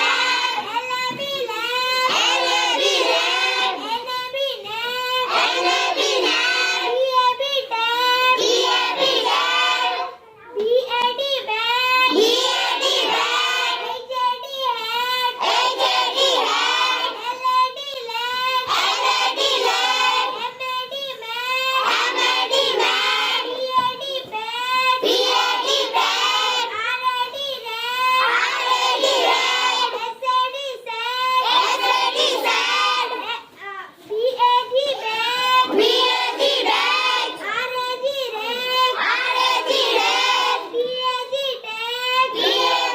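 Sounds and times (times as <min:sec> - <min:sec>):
children singing a chant: 0:00.0 - 0:42.9.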